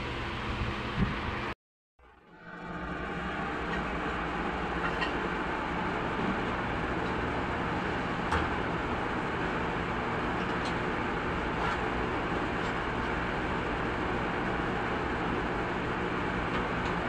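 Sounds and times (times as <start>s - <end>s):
mechanical hum and hiss: 0.0s - 1.5s, 2.2s - 17.0s.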